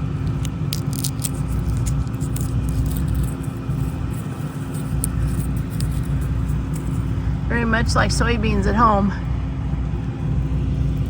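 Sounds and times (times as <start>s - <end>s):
harvest machinery rumbling: 0.0s - 11.0s.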